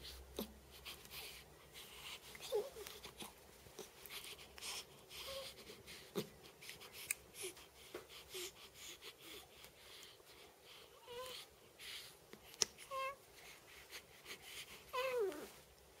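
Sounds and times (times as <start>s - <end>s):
baby soft breaths: 0.0s - 15.5s.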